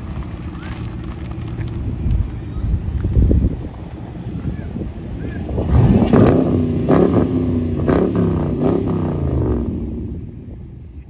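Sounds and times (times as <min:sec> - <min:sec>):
exhaust cracks: 0:00.0 - 0:11.0
car engine revving in blips: 0:00.1 - 0:10.6.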